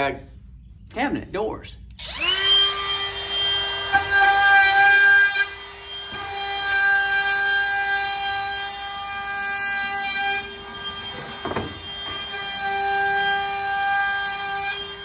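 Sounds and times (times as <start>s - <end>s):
router bit cutting wood: 2.0s - 15.0s
router motor whining: 2.0s - 15.0s.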